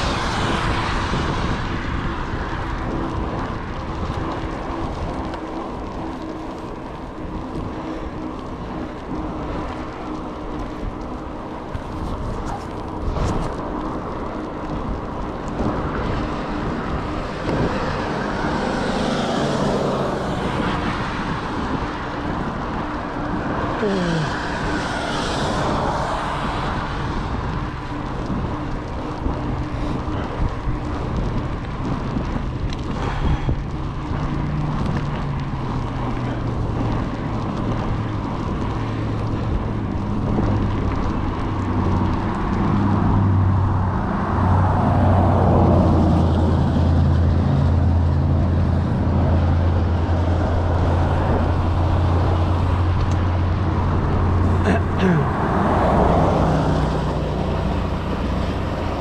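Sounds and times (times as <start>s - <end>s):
engine hum: 0.0s - 59.0s
road noise: 0.0s - 59.0s
vehicles passing: 0.0s - 59.0s
wind rushing over microphone: 0.0s - 59.0s.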